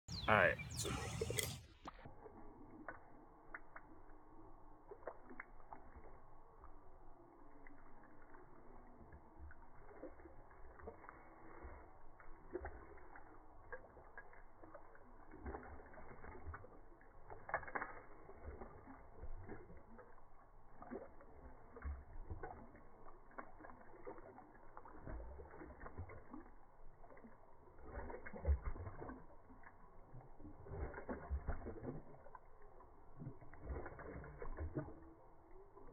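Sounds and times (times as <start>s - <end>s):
slowed dog lapping water: 0.1s - 35.9s
splashing water: 0.1s - 35.9s.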